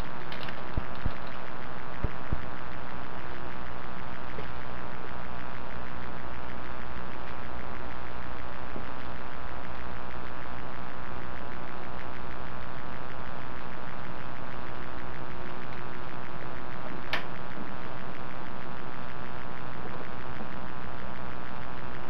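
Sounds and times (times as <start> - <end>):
low electrical hum: 0.0 - 22.0
microphone hiss: 0.0 - 22.0.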